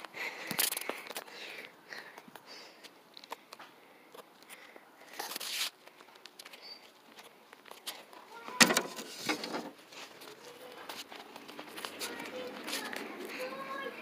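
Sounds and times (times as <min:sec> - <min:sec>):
rustling and handling noise: 0:02.2 - 0:14.0.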